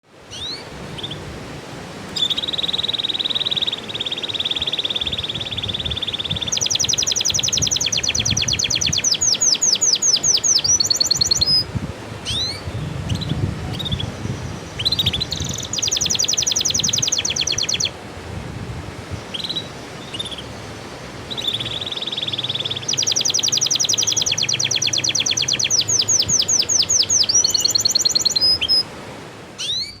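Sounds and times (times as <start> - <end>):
canary singing trills: 0.3 - 1.3, 2.1 - 18.0, 19.2 - 28.9, 29.6 - 30.0.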